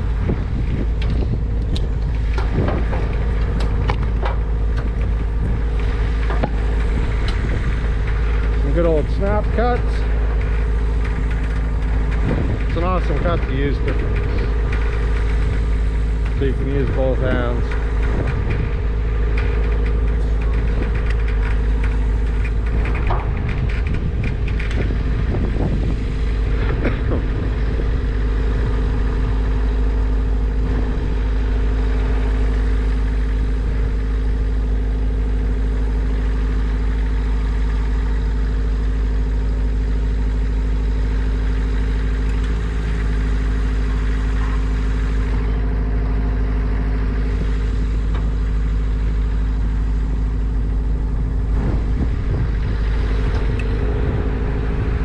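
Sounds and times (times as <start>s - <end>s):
engine idling: 0.0s - 55.0s
knocks and rattles: 0.0s - 55.0s.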